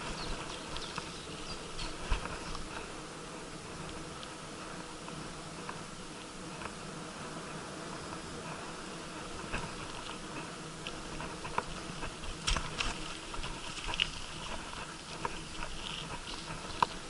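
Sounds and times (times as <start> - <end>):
bicycle rolling on rough asphalt: 0.0 - 17.0
wind noise: 0.0 - 17.0.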